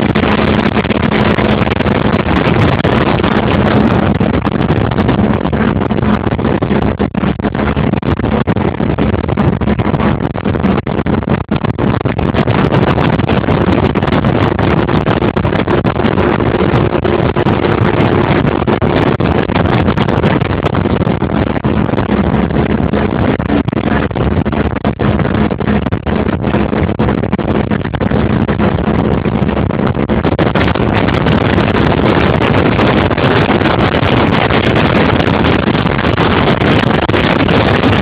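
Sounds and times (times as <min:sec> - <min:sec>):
boat engine running: 0:00.0 - 0:38.0
wind buffeting microphone: 0:00.0 - 0:38.0.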